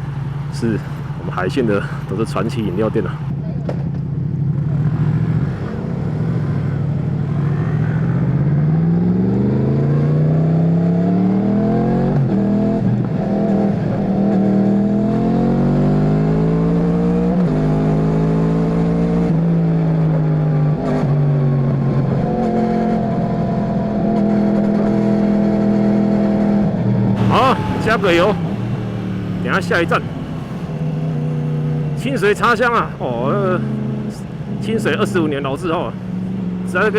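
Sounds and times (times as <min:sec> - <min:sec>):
motorcycle engine revving through gears: 0:03.6 - 0:36.9.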